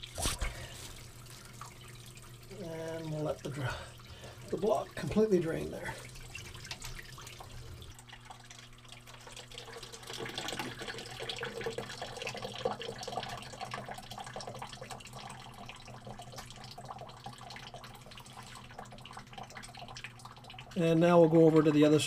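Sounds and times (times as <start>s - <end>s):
water draining from engine: 0.5s - 21.9s.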